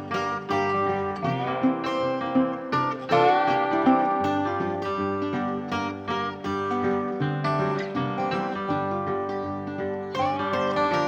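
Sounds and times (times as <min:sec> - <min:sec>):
acoustic guitar background music: 0:00.0 - 0:11.0.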